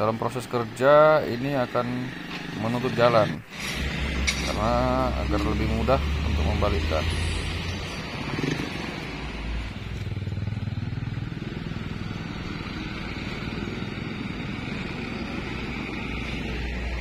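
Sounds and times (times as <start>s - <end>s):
trucks and motorcycles passing: 0.0s - 17.0s.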